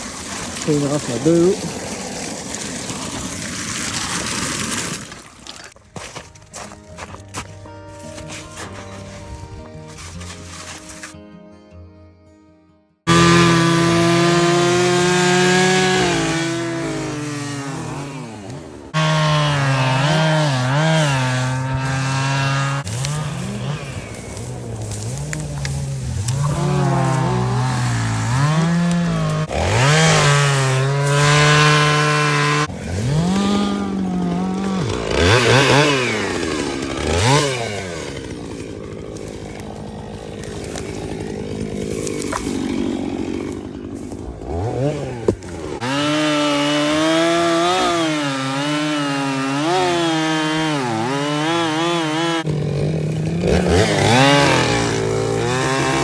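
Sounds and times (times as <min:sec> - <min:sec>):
chainsaw cutting wood: 0:00.0 - 0:11.2, 0:13.1 - 0:56.0.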